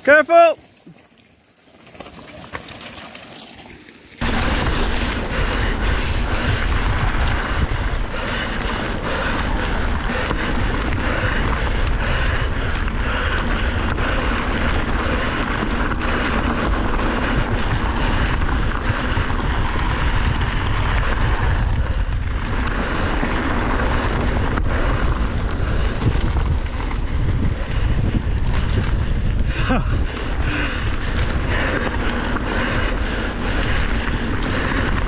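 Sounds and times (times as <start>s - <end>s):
wind buffeting the microphone: 4.2s - 35.0s.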